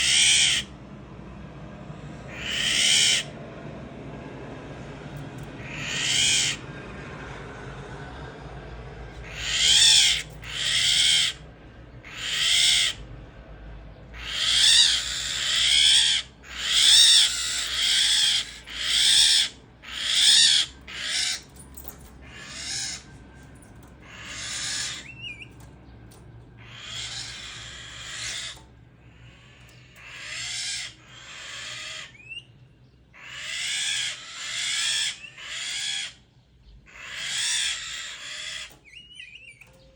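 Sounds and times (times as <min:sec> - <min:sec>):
bird harsh rasping calls: 0:00.0 - 0:00.7, 0:02.3 - 0:03.4, 0:05.6 - 0:06.7, 0:09.2 - 0:13.1, 0:14.1 - 0:23.2, 0:23.8 - 0:39.9.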